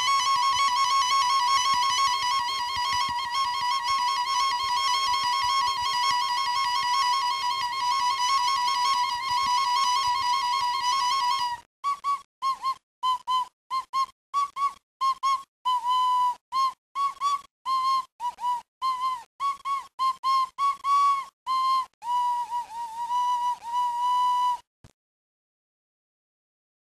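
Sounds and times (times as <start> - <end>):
high whistle-like notes: 0.0 - 24.6.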